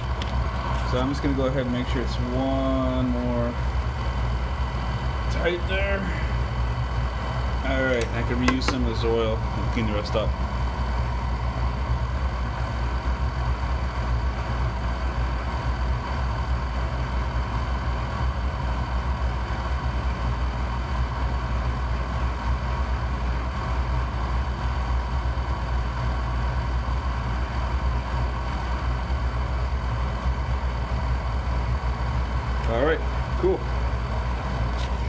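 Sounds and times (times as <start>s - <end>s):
oil burner humming: 0.0s - 35.0s.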